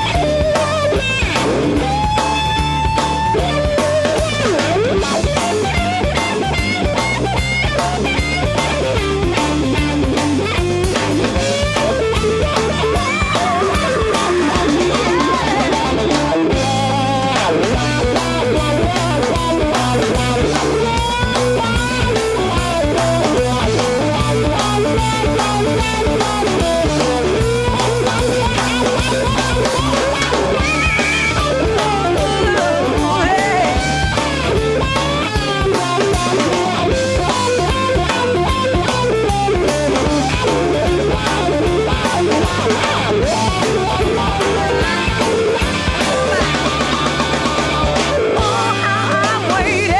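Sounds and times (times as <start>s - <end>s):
bass: 0.0s - 49.9s
drum kit: 0.0s - 49.9s
electric guitar lead: 0.0s - 49.9s.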